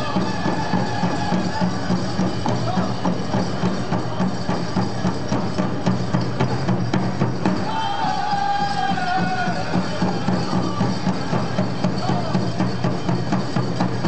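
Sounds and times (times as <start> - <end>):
large drum steady beat: 0.0 - 14.0.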